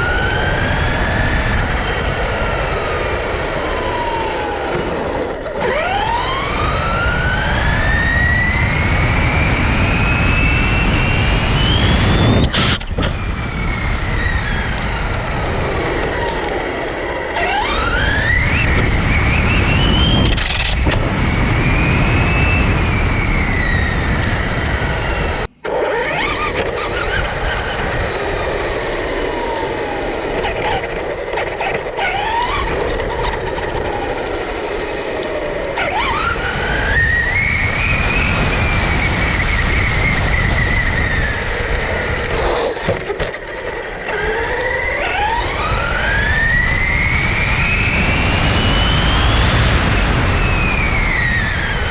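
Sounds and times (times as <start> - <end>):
electric motor whining: 0.0 - 51.9
wind noise: 0.0 - 51.9.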